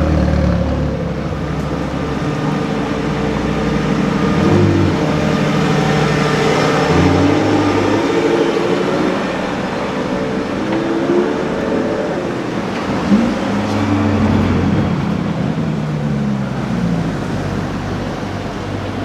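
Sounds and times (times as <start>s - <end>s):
sports car engine revving: 0.0s - 19.0s
street traffic: 0.0s - 19.0s.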